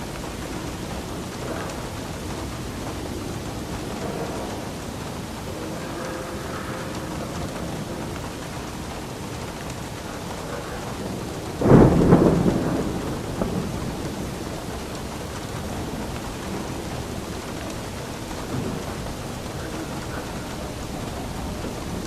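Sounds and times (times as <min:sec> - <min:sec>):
steady rain falling: 0:00.0 - 0:22.0
thunder clap and rumble: 0:00.0 - 0:22.0.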